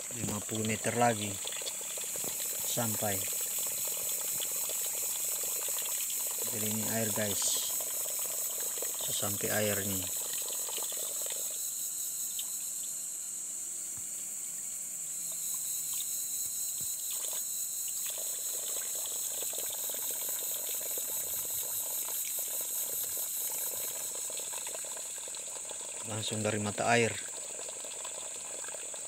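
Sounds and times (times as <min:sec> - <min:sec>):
water running from hose into pool: 0:00.0 - 0:11.8, 0:16.7 - 0:29.0
high-pitched hiss: 0:00.0 - 0:29.0.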